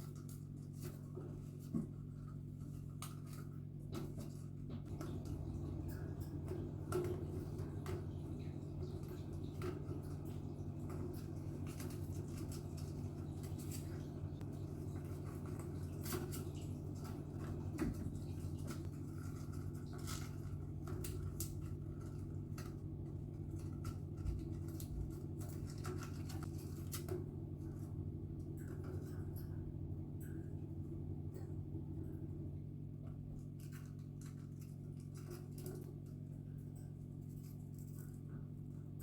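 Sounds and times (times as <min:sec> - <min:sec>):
low background hum: 0:00.0 - 0:39.0.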